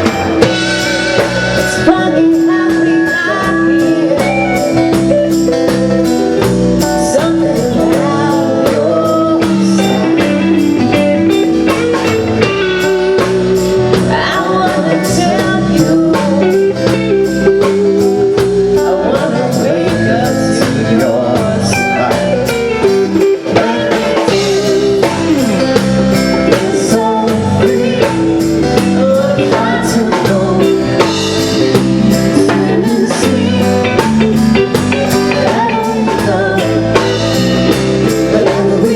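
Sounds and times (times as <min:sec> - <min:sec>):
blues guitar with bent notes: 0:00.0 - 0:38.9
drum kit beat: 0:00.0 - 0:38.9.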